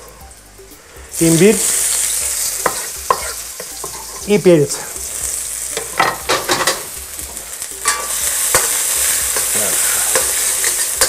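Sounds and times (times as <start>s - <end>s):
food sizzling in hot oil: 0.0s - 11.0s
utensil scraping a wok: 1.4s - 11.0s.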